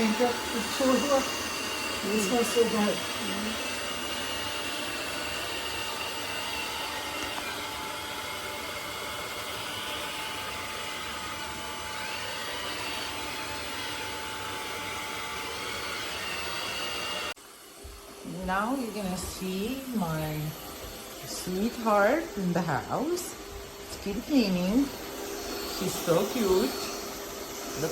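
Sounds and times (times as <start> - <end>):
robot vacuum motor whooshing: 0.0 - 17.3, 18.2 - 27.9.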